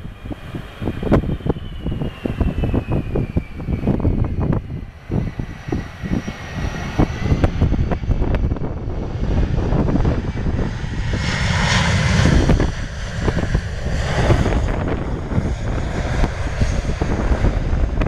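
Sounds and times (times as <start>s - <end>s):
jet engines whining: 0.0s - 18.0s
wind buffeting microphone: 0.0s - 18.0s.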